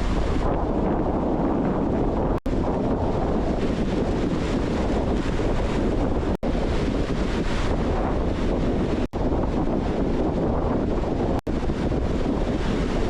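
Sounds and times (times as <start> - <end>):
strong wind buffeting microphone: 0.0 - 13.0
surf washing on beach: 0.0 - 13.0.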